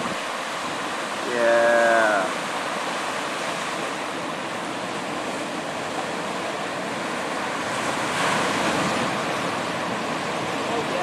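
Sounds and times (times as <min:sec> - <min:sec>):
ocean surf rushing: 0:00.0 - 0:11.0.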